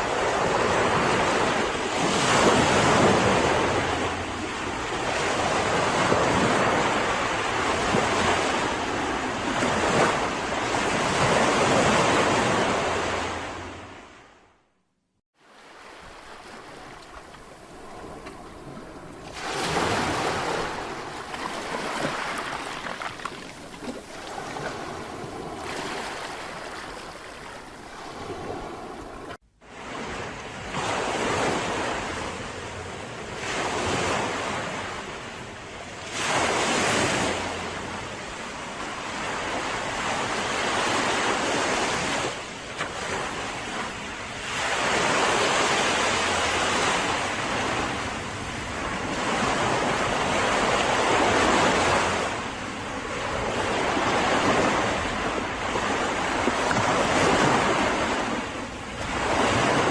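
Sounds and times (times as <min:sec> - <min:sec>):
sea waves breaking on beach: 0:00.0 - 0:14.4, 0:15.4 - 0:59.9.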